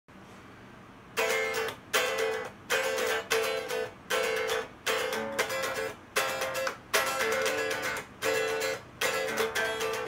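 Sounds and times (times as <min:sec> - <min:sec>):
plucked string chords: 0:01.2 - 0:10.0.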